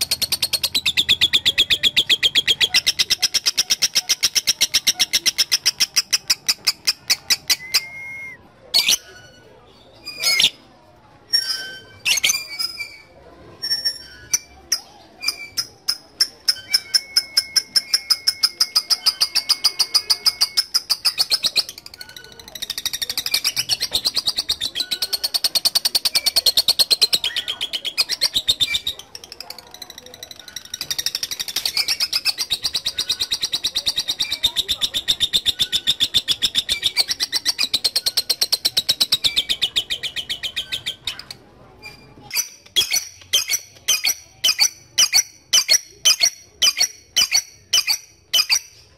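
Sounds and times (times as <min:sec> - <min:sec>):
lovebird chattering trill: 0:00.0 - 0:08.0, 0:08.8 - 0:09.0, 0:14.2 - 0:41.4, 0:42.3 - 0:48.8.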